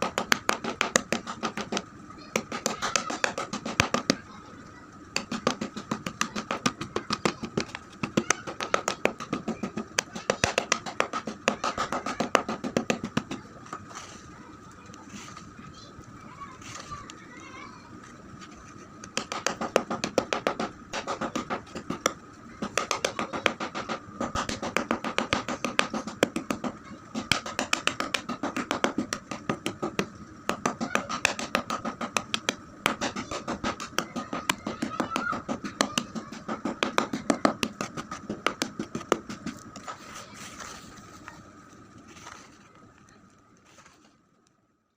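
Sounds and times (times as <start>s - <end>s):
faint high hum: 0.0s - 44.9s.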